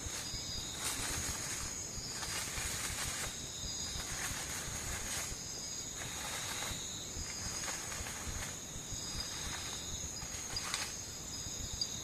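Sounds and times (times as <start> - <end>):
high-pitched insect trills: 0.0 - 12.0
rasping insect chorus: 0.0 - 12.0.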